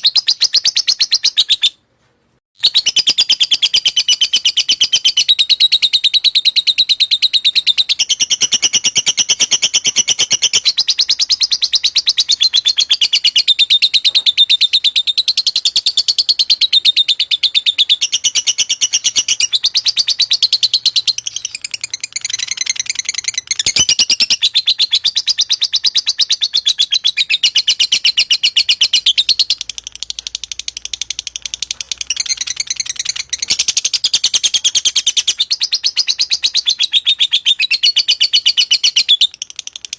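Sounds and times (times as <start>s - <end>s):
lovebird chirping shrill notes: 2.6s - 39.4s.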